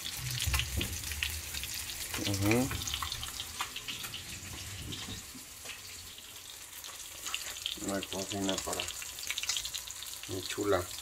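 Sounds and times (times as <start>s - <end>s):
fish frying in butter: 0.0s - 11.0s
pops and crackles of frying: 0.0s - 11.0s.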